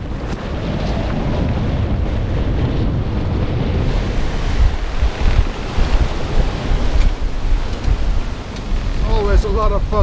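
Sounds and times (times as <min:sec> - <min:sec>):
waves breaking along a hull: 0:00.0 - 0:10.0
wind buffeting microphone: 0:00.0 - 0:10.0.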